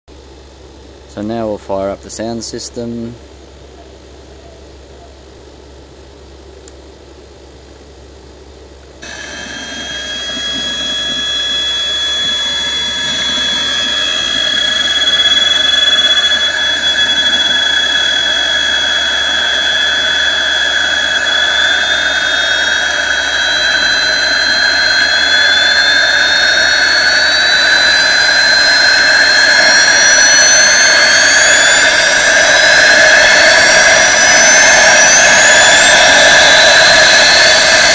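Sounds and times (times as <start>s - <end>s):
simulated jet turbine whine: 0.1s - 37.9s.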